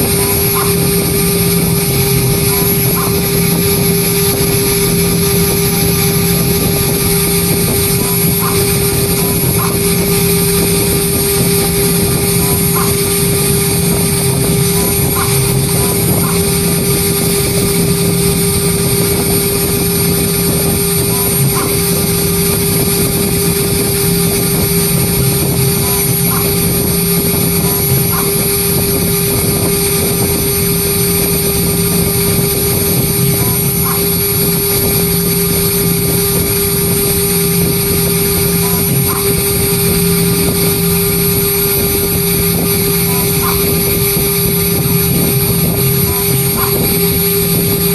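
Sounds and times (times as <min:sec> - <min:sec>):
engraving machine spindle whine: 0:00.0 - 0:47.9.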